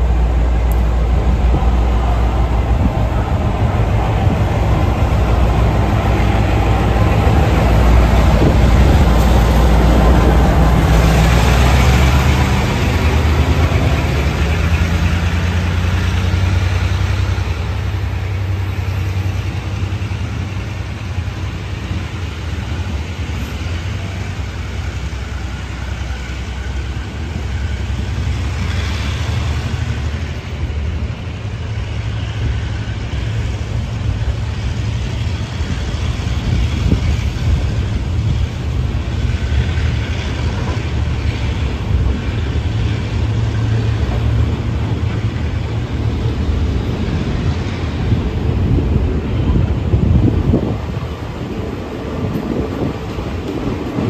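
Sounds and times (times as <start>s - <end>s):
freight wagons rolling on rails: 0.0s - 54.0s
locomotive engine running loud: 0.0s - 54.0s.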